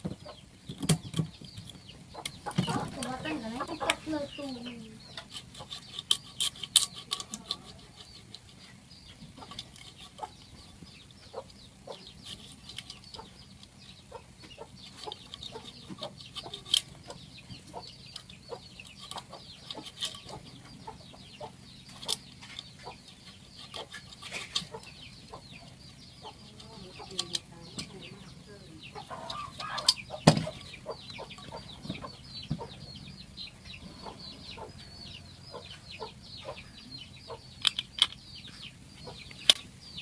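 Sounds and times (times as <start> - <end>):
birds clucking and chirping: 0.0 - 40.0.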